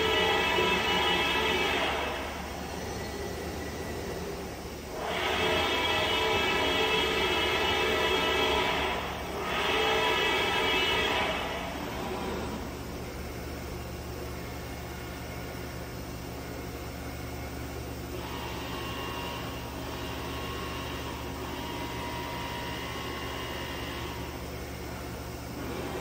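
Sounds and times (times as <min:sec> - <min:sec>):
faint high whine: 0:00.0 - 0:26.0
machine hum: 0:00.0 - 0:26.0.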